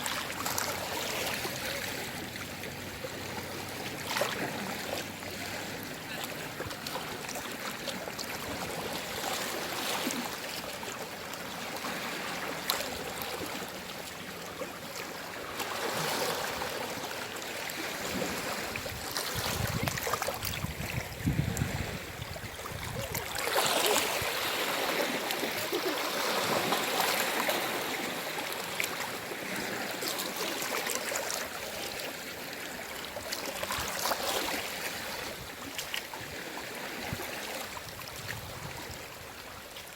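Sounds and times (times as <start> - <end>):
sea waves lapping at shore: 0.0 - 39.9.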